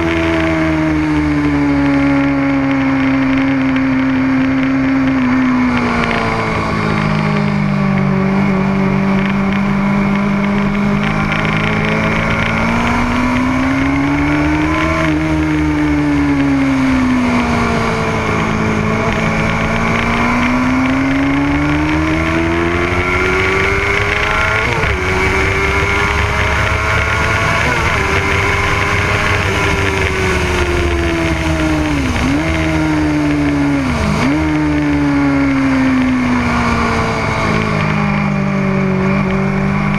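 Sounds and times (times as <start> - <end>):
motorcycle engine at speed: 0.0 - 39.9
wind noise: 0.0 - 39.9.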